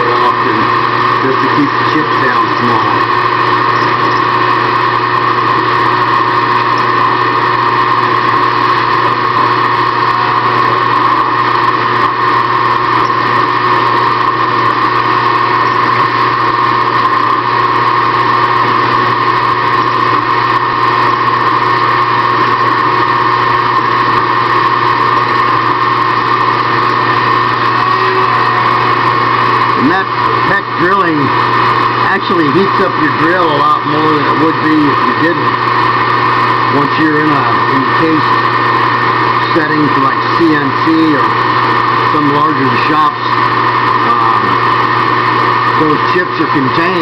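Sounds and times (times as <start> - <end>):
machine tool motor whine: 0.0 - 47.0.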